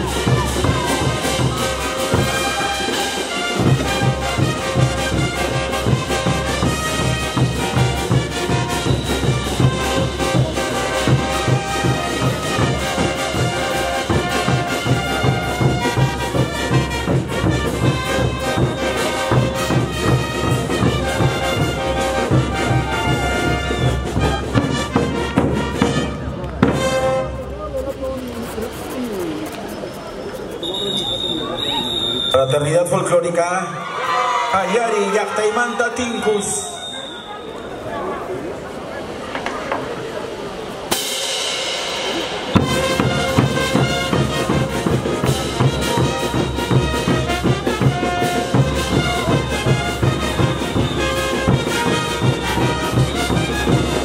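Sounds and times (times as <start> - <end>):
brass band playing: 0.0 - 29.3, 33.8 - 38.2, 39.8 - 54.0
driving drum beat: 0.0 - 30.6, 40.9 - 54.0.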